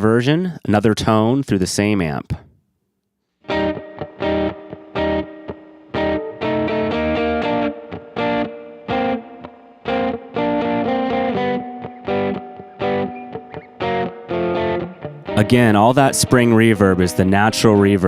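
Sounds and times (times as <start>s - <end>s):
electric guitar chord stabs: 3.5s - 18.0s.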